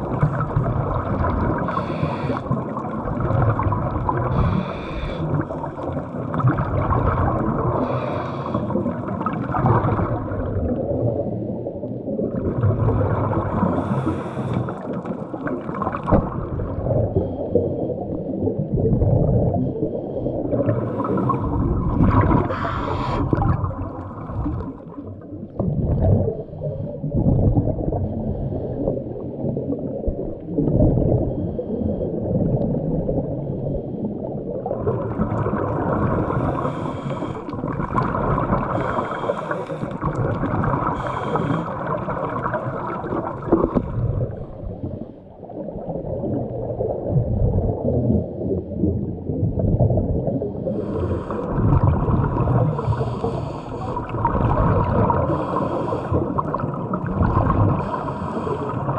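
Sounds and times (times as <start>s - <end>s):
muffled underwater bubbling: 0.0s - 58.9s.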